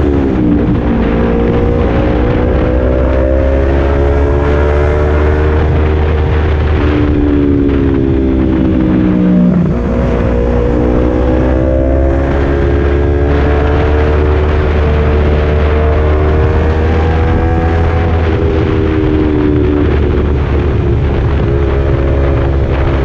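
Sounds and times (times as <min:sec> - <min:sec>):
constant low rumble: 0:00.0 - 0:23.0
motorcycle engine running loud: 0:00.0 - 0:23.0.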